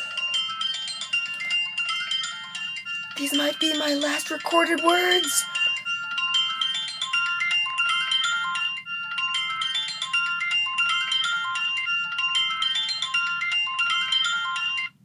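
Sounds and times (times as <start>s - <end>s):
music box melody: 0.0s - 15.0s.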